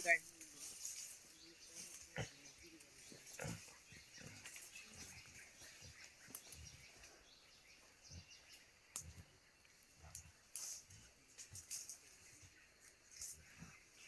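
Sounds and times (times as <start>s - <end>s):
rustling in undergrowth: 0.0s - 7.5s, 8.5s - 14.0s
faint forest hiss: 0.0s - 14.0s.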